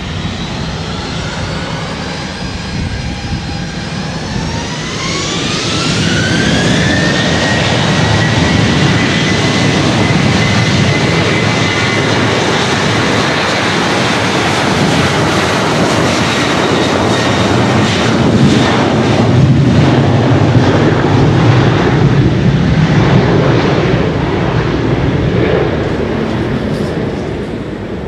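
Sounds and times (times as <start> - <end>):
jet airliner taking off: 0.0 - 28.0.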